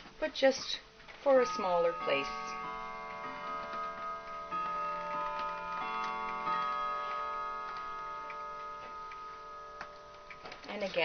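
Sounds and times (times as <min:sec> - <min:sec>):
faint clocks ticking: 0:00.0 - 0:11.0
clock chime ringing: 0:01.1 - 0:11.0.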